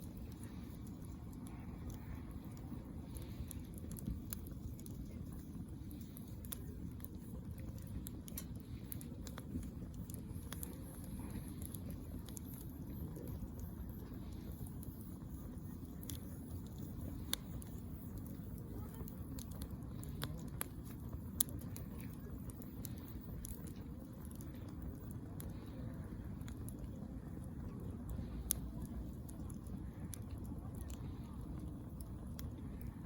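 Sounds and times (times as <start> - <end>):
fire low rumble: 0.0 - 33.0
wood fire crackling and popping: 0.0 - 33.0.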